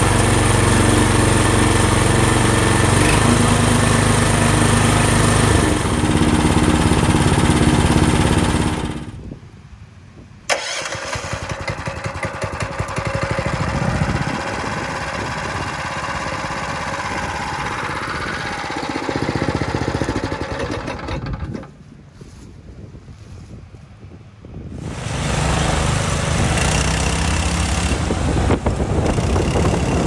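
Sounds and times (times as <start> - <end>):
small engine running: 0.0 - 9.2, 10.5 - 21.7, 24.8 - 30.0.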